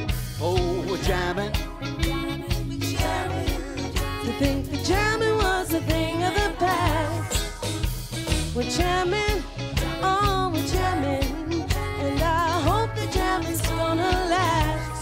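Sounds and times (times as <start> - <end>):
bass line: 0.0 - 15.0
drums: 0.0 - 15.0
reggae band: 0.0 - 15.0
woman singing: 2.0 - 7.6, 8.5 - 15.0.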